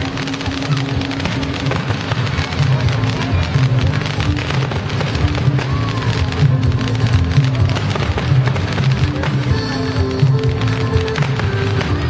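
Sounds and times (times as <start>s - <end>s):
fireworks crackling: 0.0s - 12.0s
music: 0.0s - 12.0s.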